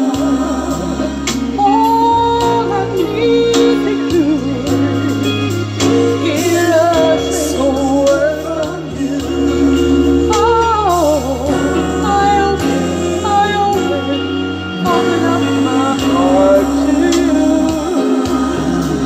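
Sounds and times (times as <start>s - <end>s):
woman singing with vibrato: 0.0s - 5.3s, 6.2s - 19.0s
musical accompaniment with bass: 0.0s - 19.0s.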